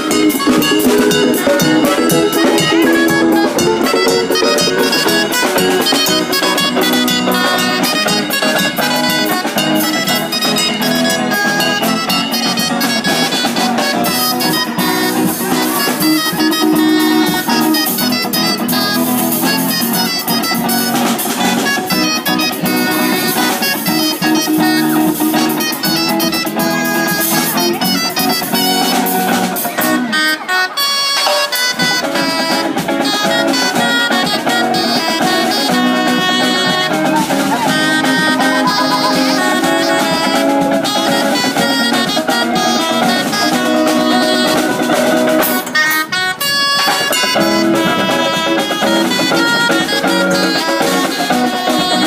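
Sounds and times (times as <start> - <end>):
drums: 0.0 - 52.0
guitar: 0.0 - 52.0
street band playing: 0.0 - 52.0.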